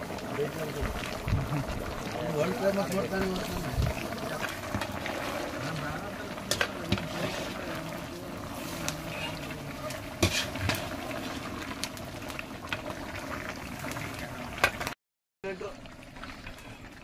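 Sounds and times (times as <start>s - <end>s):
curry bubbling in a pot: 0.0s - 17.0s.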